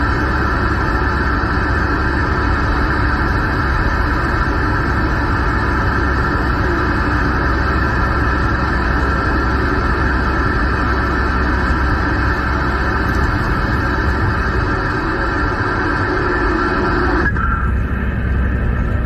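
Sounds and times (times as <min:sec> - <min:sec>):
engine and road drone: 0:00.0 - 0:19.0.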